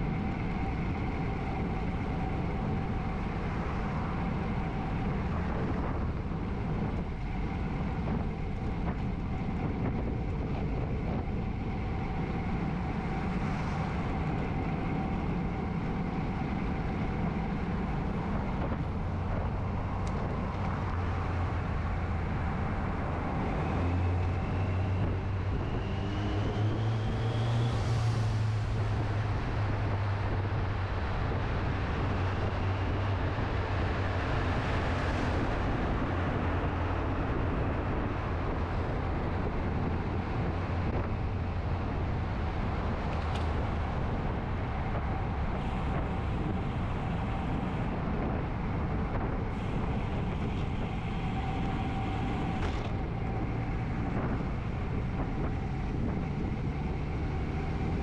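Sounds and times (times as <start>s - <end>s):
bicycle tyres on road: 0.0s - 58.0s
vehicle engine hum and whine: 0.0s - 58.0s
wind rush: 0.0s - 58.0s.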